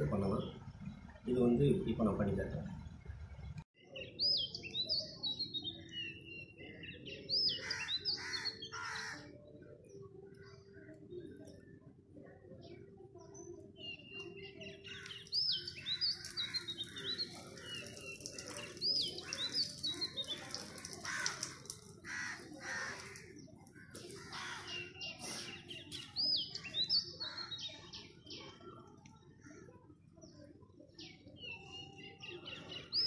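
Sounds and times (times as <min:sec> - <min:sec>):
songbird singing: 0:02.6 - 0:33.0.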